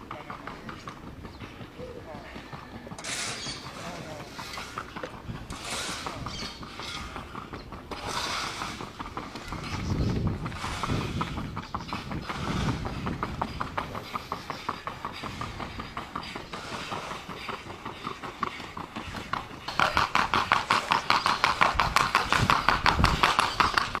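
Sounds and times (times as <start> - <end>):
horse hooves striking ground: 0.0 - 24.0.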